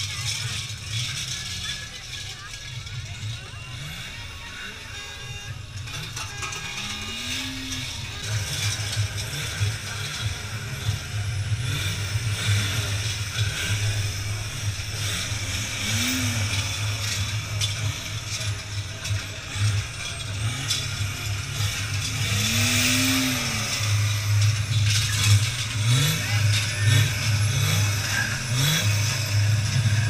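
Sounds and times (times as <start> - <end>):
bells clanging: 0.0 - 30.0
deep steady rumble: 0.0 - 30.0.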